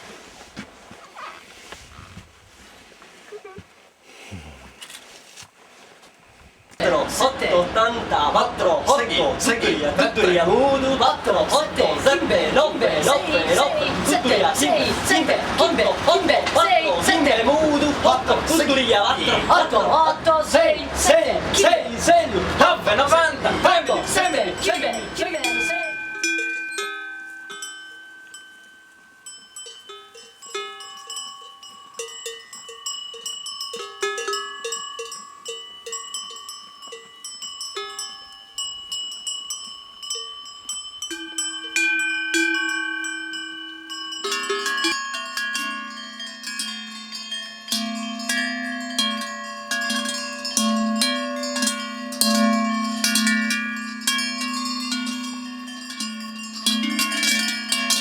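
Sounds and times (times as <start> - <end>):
cowbells clanking: 6.8 - 58.0
deeper bells clanking: 6.8 - 58.0.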